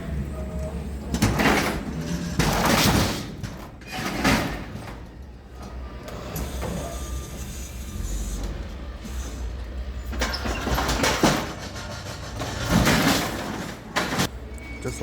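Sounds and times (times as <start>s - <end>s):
rattling scraping bangs in truck: 1.0s - 14.4s.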